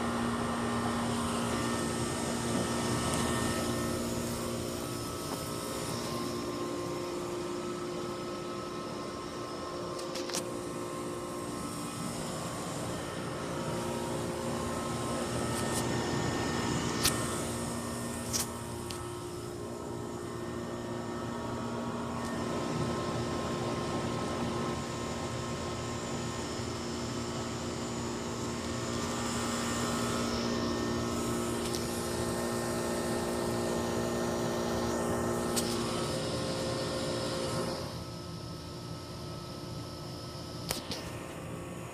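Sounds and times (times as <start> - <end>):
heat pump unit humming: 0.0 - 41.9.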